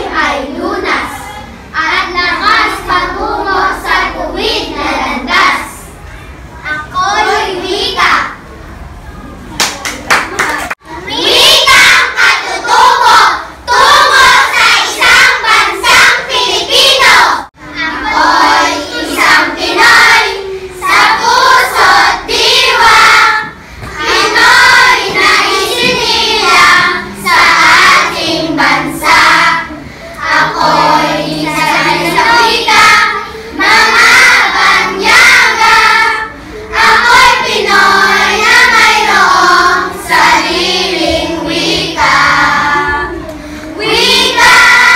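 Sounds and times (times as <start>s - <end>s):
children singing in unison: 0.0s - 5.9s, 11.0s - 44.9s.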